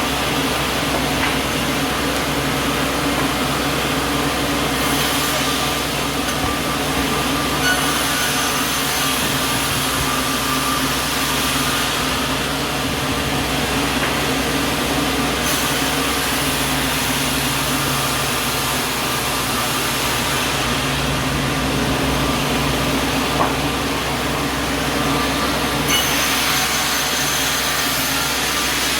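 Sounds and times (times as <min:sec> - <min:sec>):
sawmill machine drone: 0:00.0 - 0:28.9.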